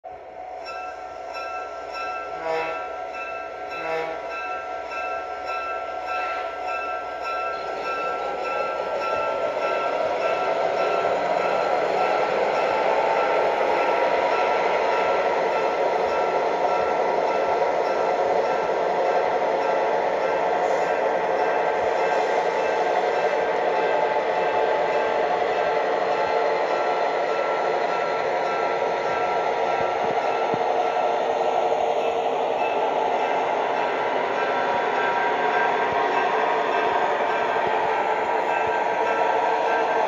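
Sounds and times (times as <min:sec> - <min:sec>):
model train running: 0:00.1 - 0:40.0
pulsing ringing tone: 0:00.4 - 0:40.0.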